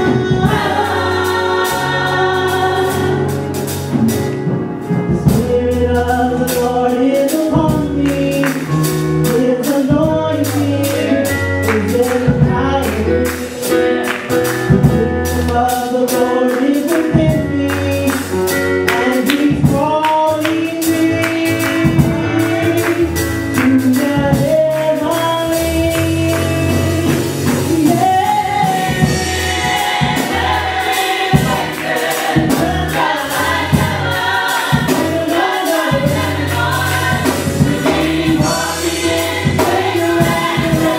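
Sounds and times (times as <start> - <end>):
percussion beat: 0.0 - 4.3, 7.2 - 40.9
band with bass: 0.0 - 40.9
gospel choir singing: 0.0 - 40.9.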